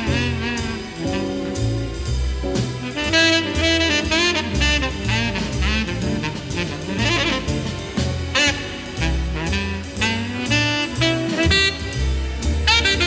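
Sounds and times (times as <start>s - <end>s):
jazz music: 0.0s - 13.0s.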